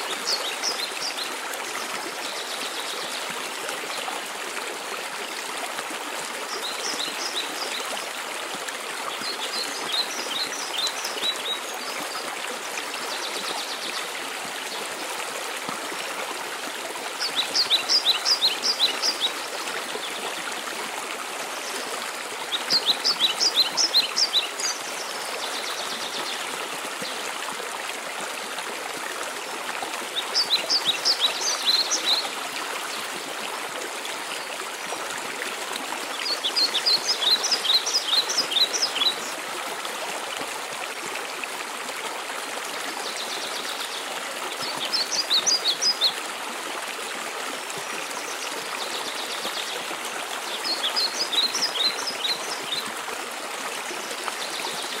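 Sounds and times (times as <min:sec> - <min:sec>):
waterfall and stream rushing: 0:00.0 - 0:55.0.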